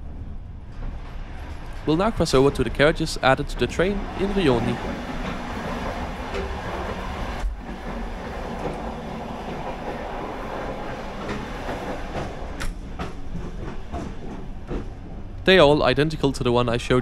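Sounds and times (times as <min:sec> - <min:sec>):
train coaches rumbling and rattling: 0:00.0 - 0:17.0.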